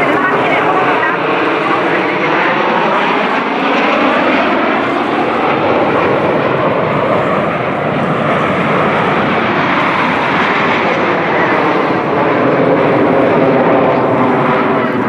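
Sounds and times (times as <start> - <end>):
jet aircraft flying past: 0.0 - 15.0.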